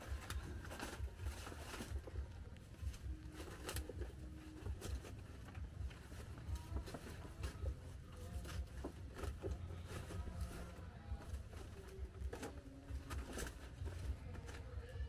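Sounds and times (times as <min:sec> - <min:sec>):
banana leaves rustling and crackling: 0:00.0 - 0:15.0.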